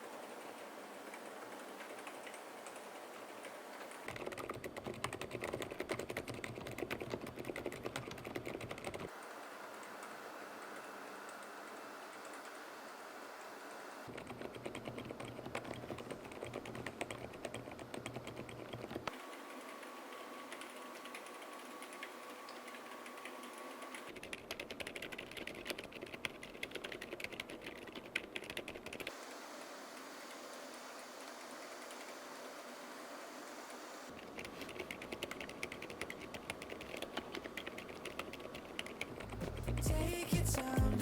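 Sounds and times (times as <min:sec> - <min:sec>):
soft muted keyboard typing: 0:00.0 - 0:33.1, 0:34.1 - 0:41.0.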